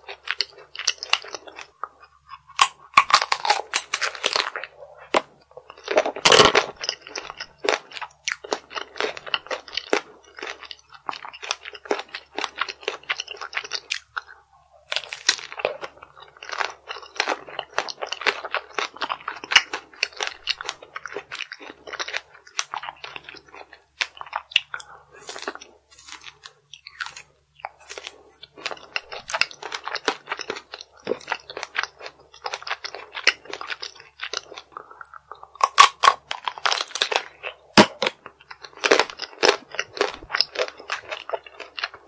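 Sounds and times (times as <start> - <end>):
crunching and chewing candy: 0.0 - 42.0.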